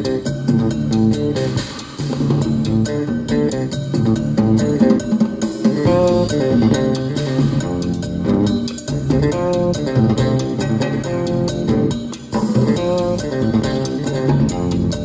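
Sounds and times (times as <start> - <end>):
rock music through car speakers: 0.0 - 15.0.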